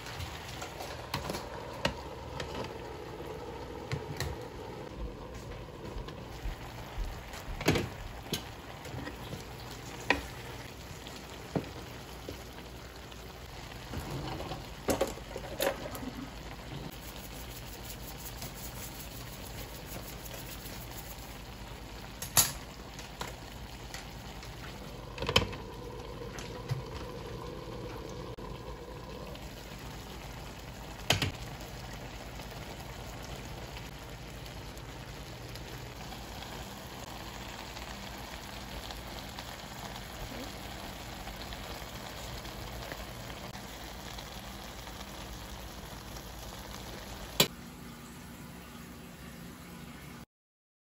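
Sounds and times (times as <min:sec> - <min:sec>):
food simmering with bubbling hiss: 0:00.0 - 0:50.2.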